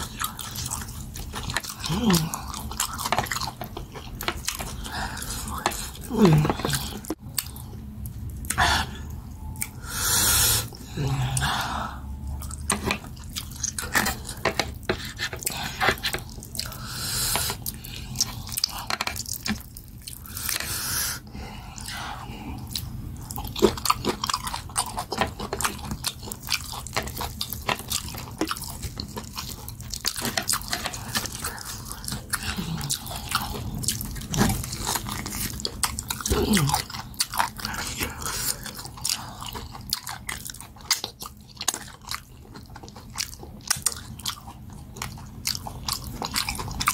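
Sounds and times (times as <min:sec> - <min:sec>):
wet chewing of meat: 0:00.0 - 0:09.9, 0:10.6 - 0:46.9.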